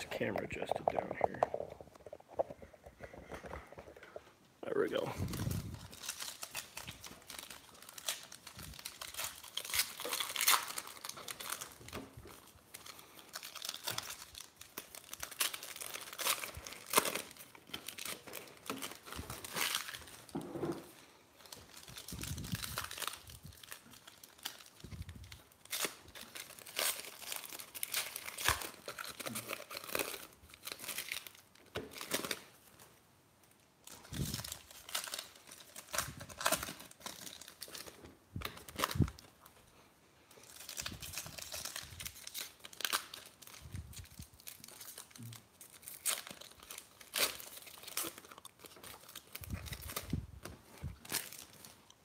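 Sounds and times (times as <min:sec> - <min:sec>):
foil wrappers tearing and crinkling: 0:04.8 - 0:32.7, 0:33.8 - 0:39.4, 0:40.3 - 0:52.0.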